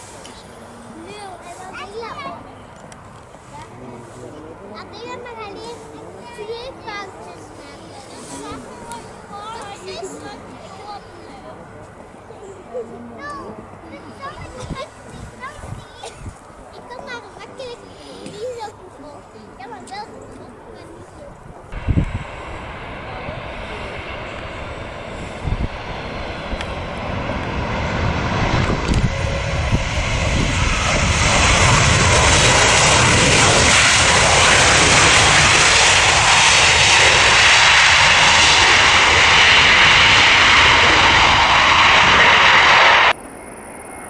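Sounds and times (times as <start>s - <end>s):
jet engines rushing: 0.0s - 16.6s, 21.3s - 44.0s.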